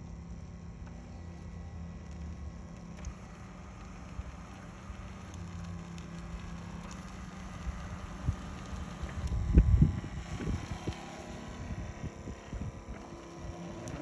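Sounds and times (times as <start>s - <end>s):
electric motor hum: 0.0s - 14.0s
tyres crackling on dirt: 0.6s - 14.0s.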